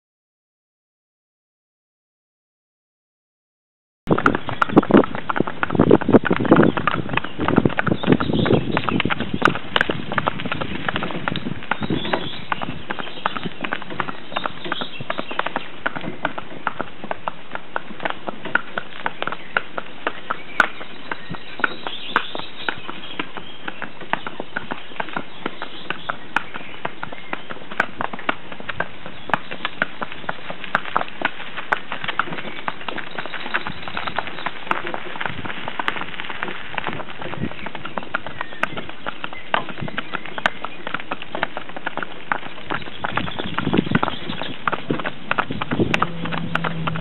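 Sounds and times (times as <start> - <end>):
hooves clip-clopping: 4.1 - 47.0.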